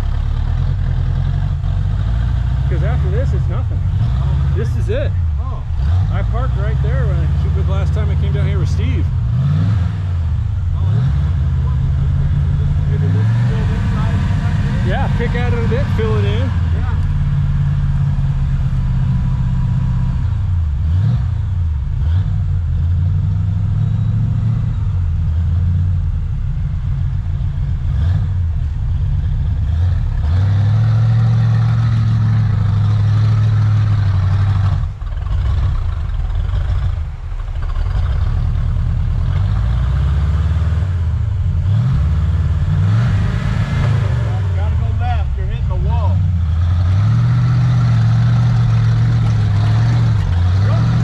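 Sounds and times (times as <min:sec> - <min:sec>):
off-road vehicle engine revving: 0:00.0 - 0:51.0.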